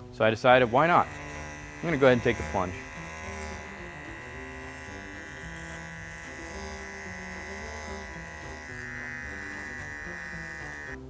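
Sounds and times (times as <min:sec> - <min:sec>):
background music: 0:00.0 - 0:11.0
electric hair trimmer buzzing: 0:00.0 - 0:11.0.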